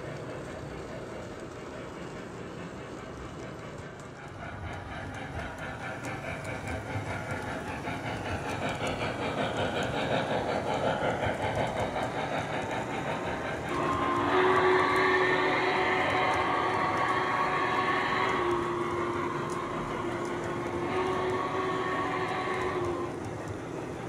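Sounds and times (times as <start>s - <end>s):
model steam locomotive running: 0.0s - 24.0s.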